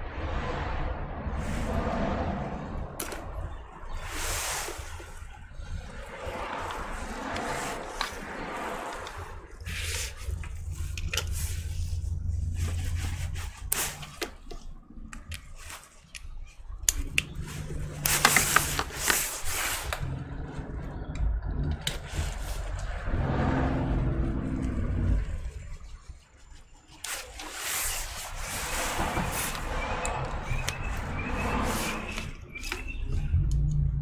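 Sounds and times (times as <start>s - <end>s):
low steady hum: 0.0s - 27.5s.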